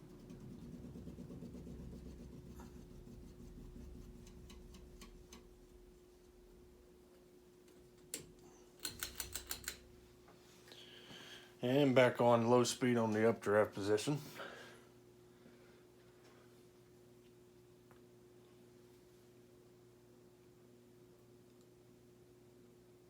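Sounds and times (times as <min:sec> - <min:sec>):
ceiling fan motor humming: 0:00.0 - 0:23.0.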